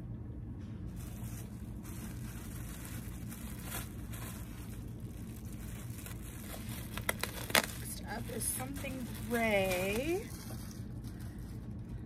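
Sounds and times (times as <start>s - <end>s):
steady low hum: 0.0s - 12.0s
plastic packaging rustling: 0.8s - 12.0s.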